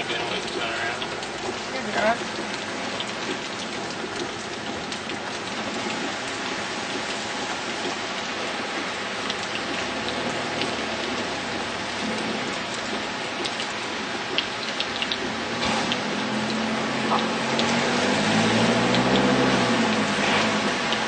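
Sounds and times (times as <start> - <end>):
heavy rain on a car: 0.0 - 21.0
rain drops ticking: 0.0 - 21.0.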